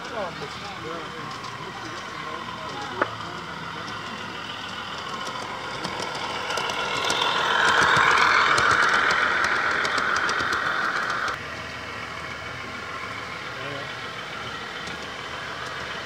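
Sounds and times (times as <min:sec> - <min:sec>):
wheels clicking on track: 0:00.0 - 0:16.0
model train motor whine: 0:00.1 - 0:16.0.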